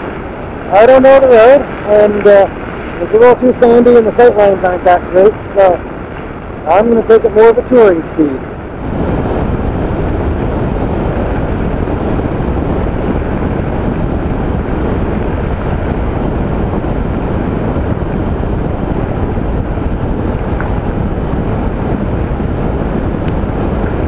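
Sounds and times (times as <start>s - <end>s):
wind rush over microphone: 0.0s - 24.0s.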